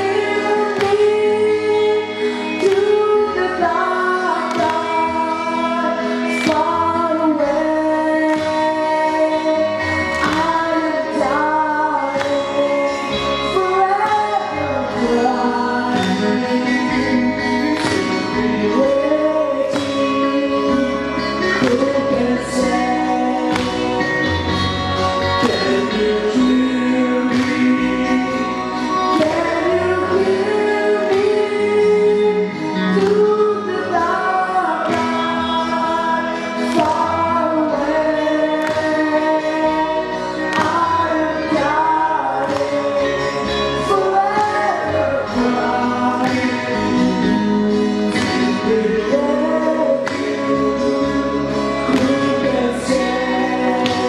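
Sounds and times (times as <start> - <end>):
instrumental backing: 0.0 - 54.0
person singing: 0.0 - 54.0.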